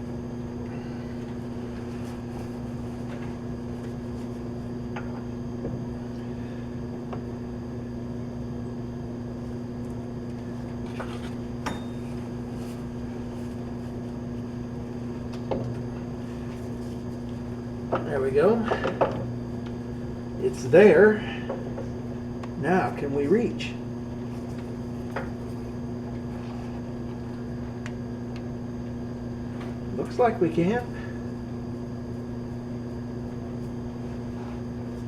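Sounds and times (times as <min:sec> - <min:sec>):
steady electric hum: 0:00.0 - 0:35.0.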